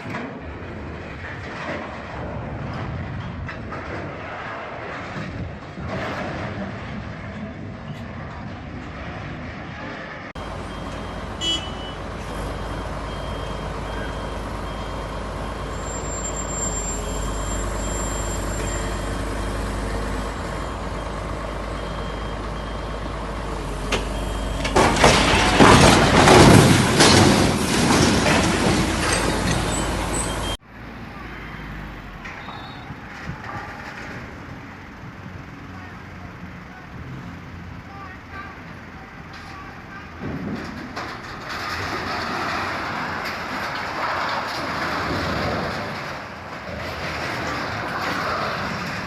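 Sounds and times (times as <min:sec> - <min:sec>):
heavy vehicle engine rumble: 0:00.0 - 0:49.0.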